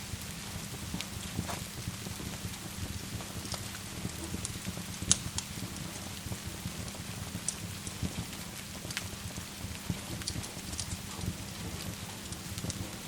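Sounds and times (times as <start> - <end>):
fire crackling and popping: 0.0 - 13.0
steady rain: 0.0 - 13.0.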